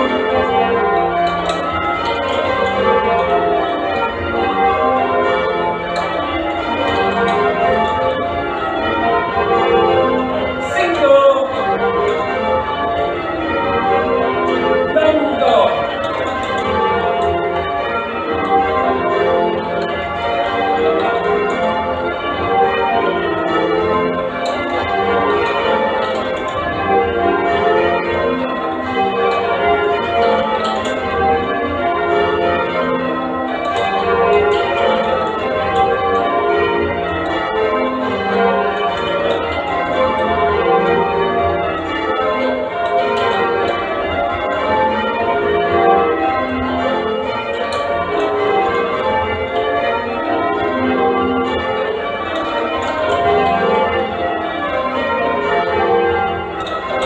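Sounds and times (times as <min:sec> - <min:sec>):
church bells change ringing: 0:00.0 - 0:57.0.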